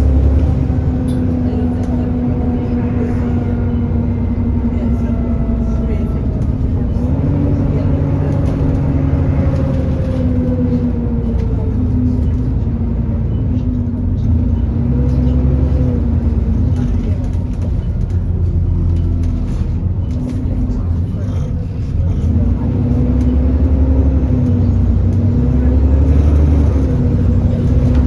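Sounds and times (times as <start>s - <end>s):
bus engine drone: 0.0s - 28.0s.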